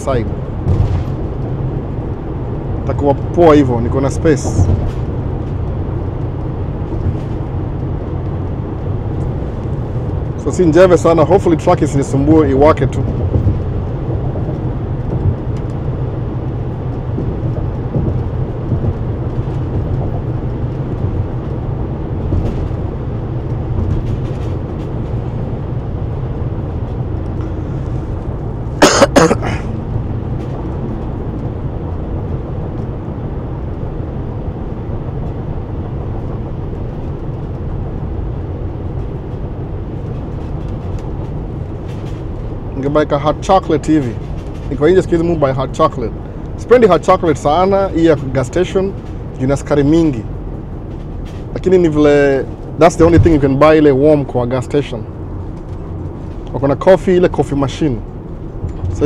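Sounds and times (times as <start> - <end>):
road and engine rumble in van: 0.0 - 59.0.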